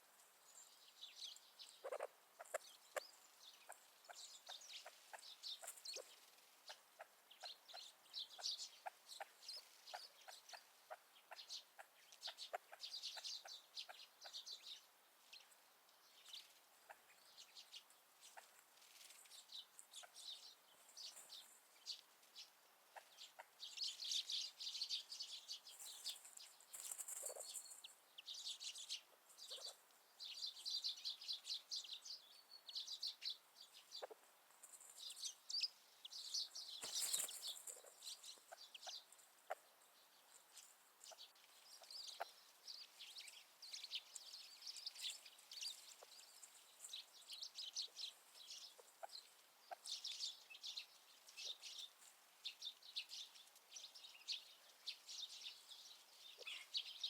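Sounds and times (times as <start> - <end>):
birds chirping and clucking: 1.1 - 15.5, 16.1 - 32.1, 32.8 - 57.0.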